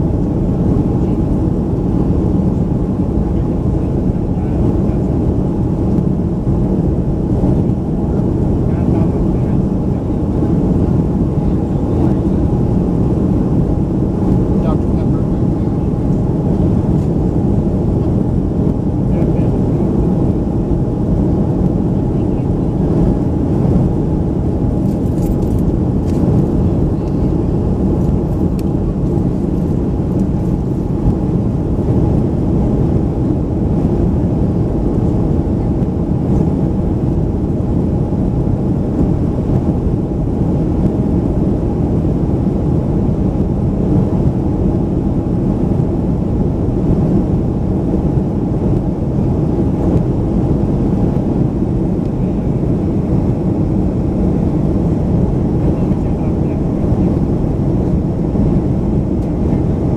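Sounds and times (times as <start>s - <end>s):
airplane cabin engine noise: 0.0s - 59.9s.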